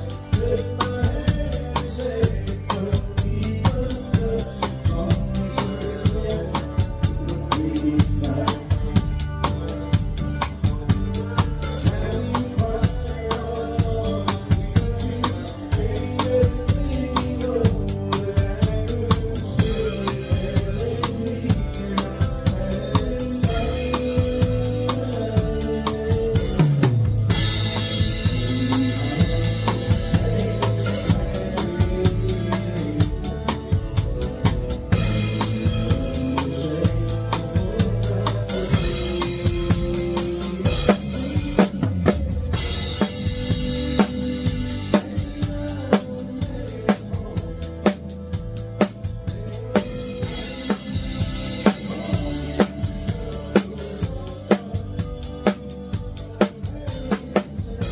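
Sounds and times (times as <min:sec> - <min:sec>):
bass drum: 0:00.0 - 0:57.9
bass guitar: 0:00.0 - 0:57.9
drum rimshots: 0:00.0 - 0:57.9
live country band: 0:00.0 - 0:57.9.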